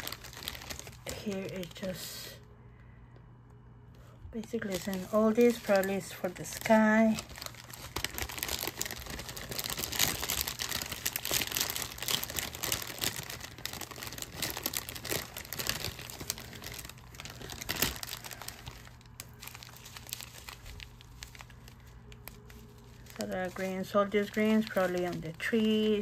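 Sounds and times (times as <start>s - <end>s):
plastic bags crinkling: 0.0s - 2.2s, 4.4s - 26.0s.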